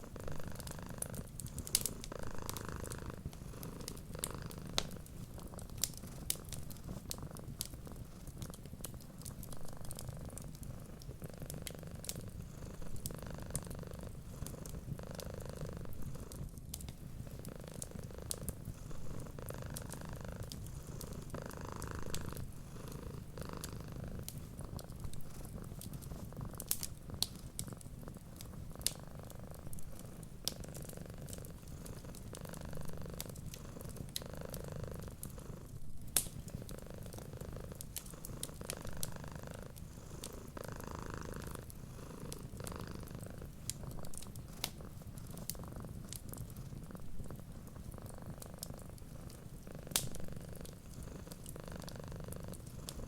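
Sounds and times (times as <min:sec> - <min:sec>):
wood fire crackling: 0:00.0 - 0:15.0, 0:15.9 - 0:34.3, 0:34.9 - 0:53.0
cat purring: 0:00.0 - 0:53.0.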